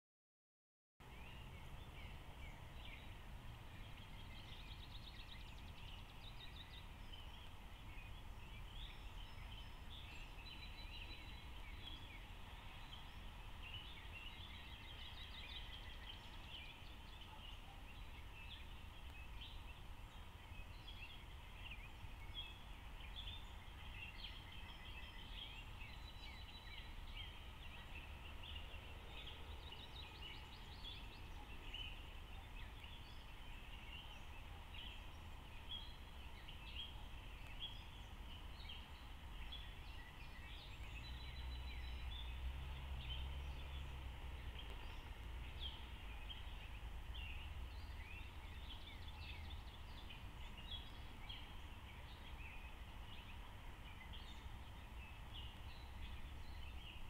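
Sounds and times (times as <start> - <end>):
birds chirping and trilling: 1.0 - 57.0.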